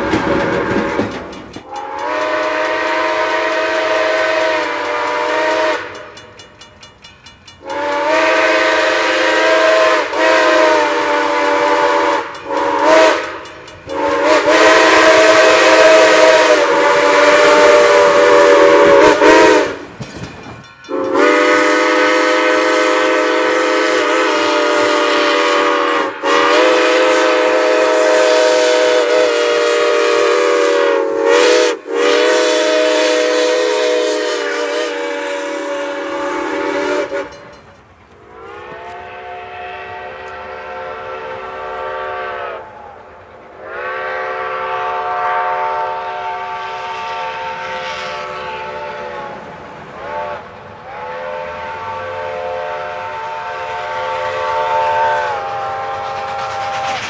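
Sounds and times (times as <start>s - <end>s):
steam whistle blasts: 0.0s - 6.3s, 7.6s - 19.9s, 20.8s - 37.6s, 38.2s - 57.0s.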